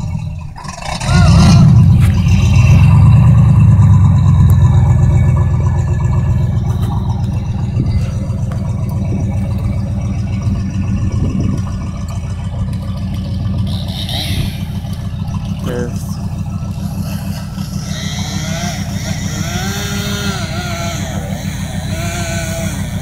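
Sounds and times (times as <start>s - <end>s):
pickup truck engine running hard: 0.0s - 23.0s.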